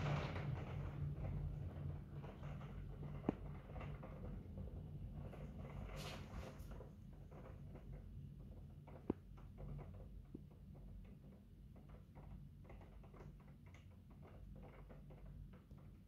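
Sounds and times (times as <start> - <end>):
rain pattering on a window: 0.0 - 16.0.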